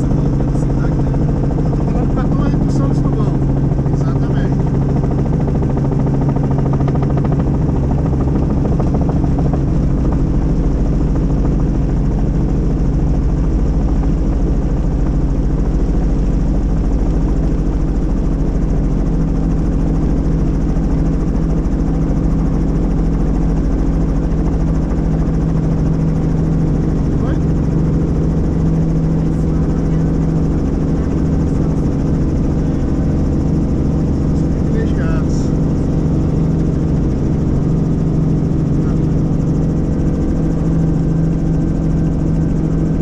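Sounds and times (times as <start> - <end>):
helicopter engine and rotor drone: 0.0 - 43.0.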